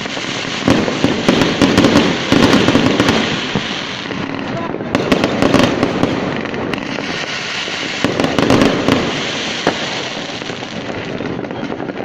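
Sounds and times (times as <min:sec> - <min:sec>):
firework crack: 0:00.0 - 0:12.0
fireworks bangs: 0:00.0 - 0:12.0.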